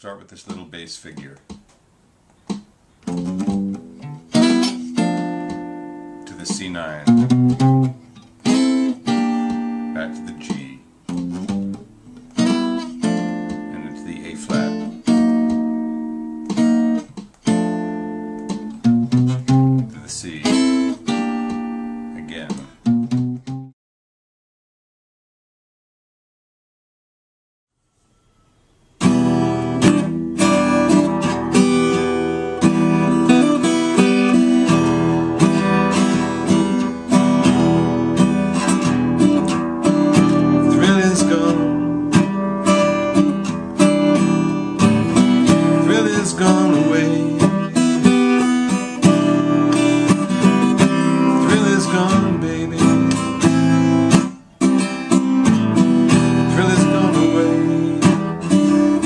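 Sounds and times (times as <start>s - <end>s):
acoustic guitar blues: 2.4s - 23.7s, 29.0s - 59.0s.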